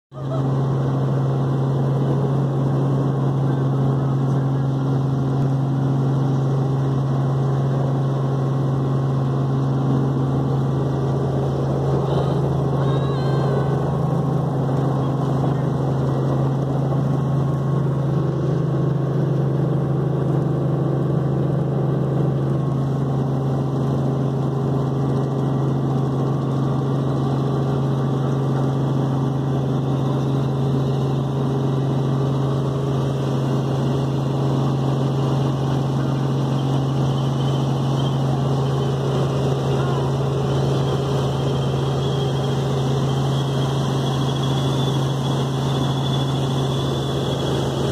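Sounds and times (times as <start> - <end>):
helicopter engine and rotor drone: 0.1 - 47.9.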